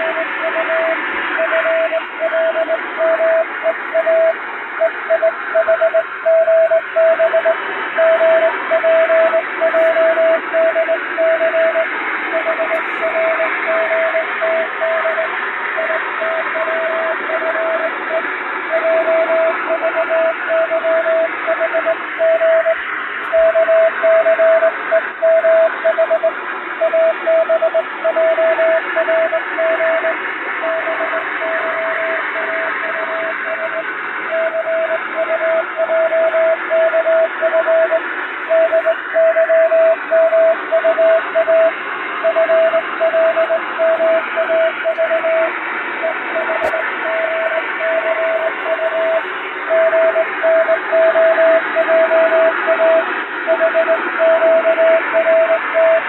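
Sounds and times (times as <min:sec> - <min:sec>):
morse code beeps: 0:00.0 - 0:56.0
radio static hiss: 0:00.0 - 0:56.0.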